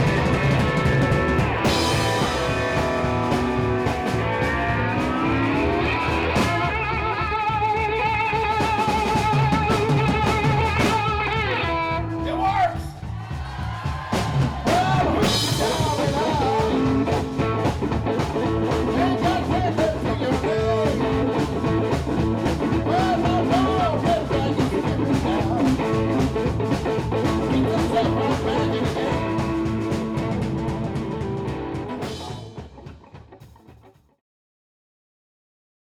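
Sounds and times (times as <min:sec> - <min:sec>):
blues-rock band playing: 0:00.0 - 0:33.8.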